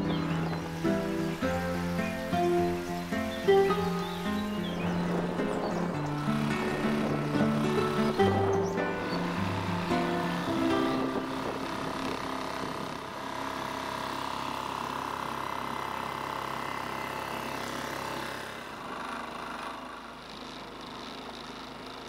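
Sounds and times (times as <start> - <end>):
small boat motor running: 0.0 - 22.0.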